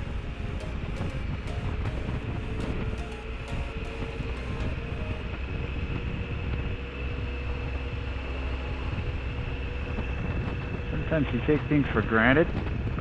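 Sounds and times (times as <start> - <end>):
motorcycle engine drone: 0.0 - 13.0
wind rush on microphone: 0.0 - 13.0.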